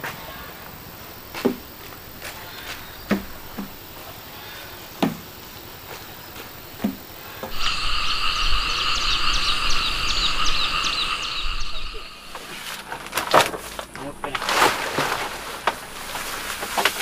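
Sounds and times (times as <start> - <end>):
frogs and insects calling: 0.0 - 17.0.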